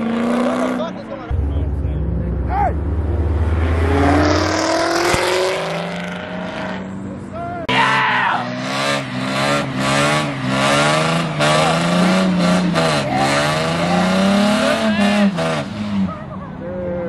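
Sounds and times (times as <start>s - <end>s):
car engine revving: 0.0s - 7.3s, 8.4s - 16.2s.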